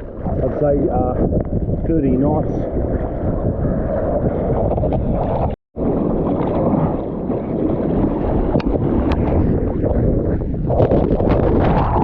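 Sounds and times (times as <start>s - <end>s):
sea water noise: 0.0s - 12.0s
strong wind buffeting microphone: 0.0s - 12.0s.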